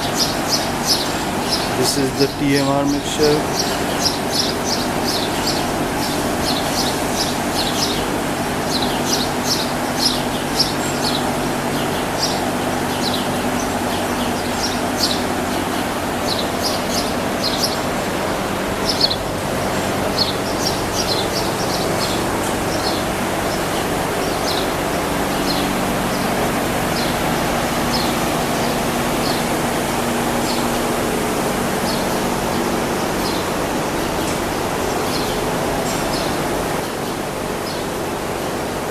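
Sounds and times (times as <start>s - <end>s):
small birds chirping: 0.0s - 38.8s
machine hum: 0.0s - 38.9s.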